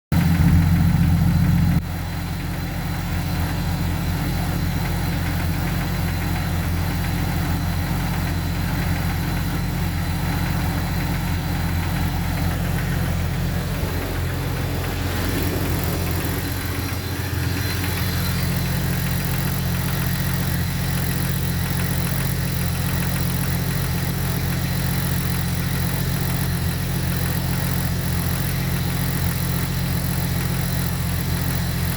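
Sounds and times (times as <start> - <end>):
car engine idling with knock: 0.1 - 31.9.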